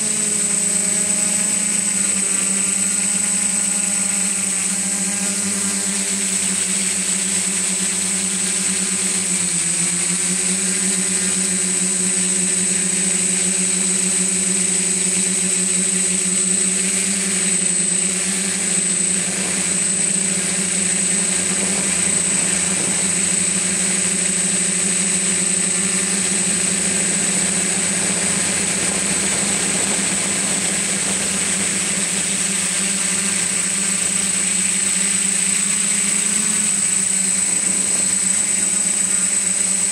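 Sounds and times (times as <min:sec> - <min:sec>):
drone propellers humming with whine: 0:00.0 - 0:39.9.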